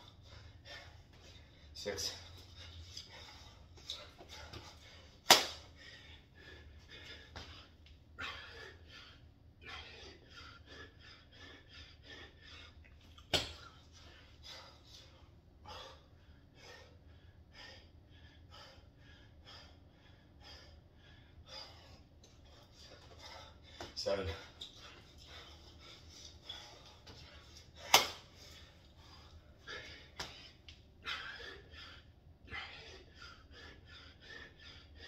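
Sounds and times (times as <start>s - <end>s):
man breathing hard: 0.0s - 35.0s.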